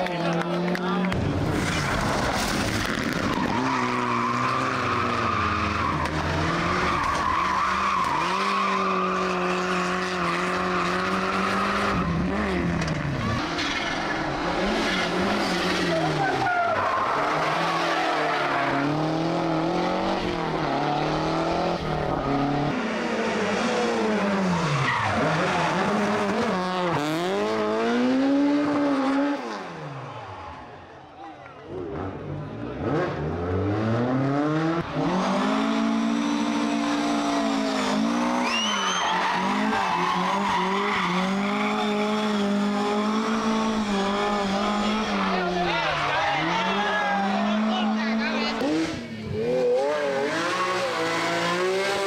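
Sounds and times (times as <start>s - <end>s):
rally car engine revving: 0.0s - 30.0s, 31.7s - 52.0s.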